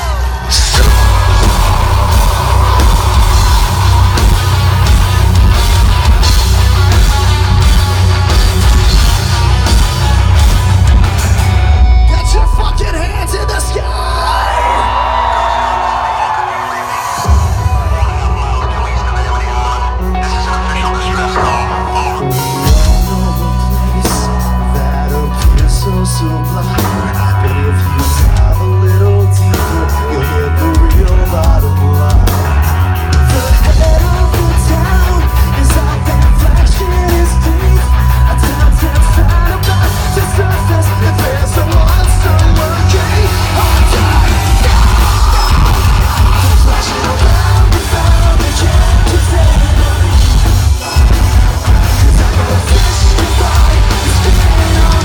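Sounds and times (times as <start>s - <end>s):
metalcore band playing live: 0.0s - 55.0s.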